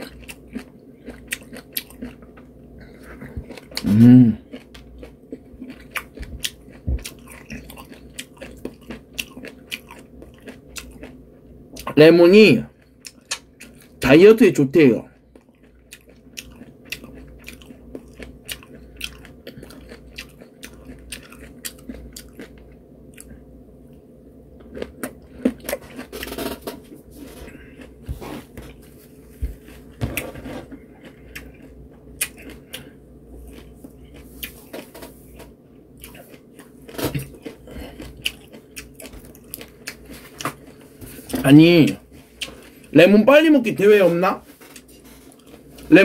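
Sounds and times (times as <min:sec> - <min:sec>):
person chewing lemon: 0:00.0 - 0:12.0, 0:12.7 - 0:14.1, 0:15.1 - 0:43.0, 0:44.4 - 0:46.0.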